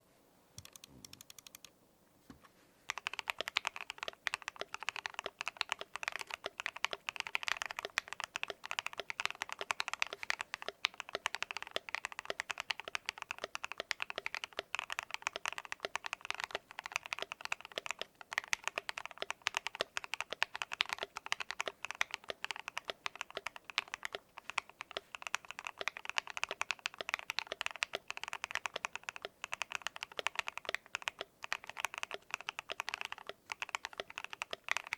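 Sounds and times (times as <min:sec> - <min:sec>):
mechanical keyboard typing: 0:00.6 - 0:01.7, 0:02.9 - 0:34.9.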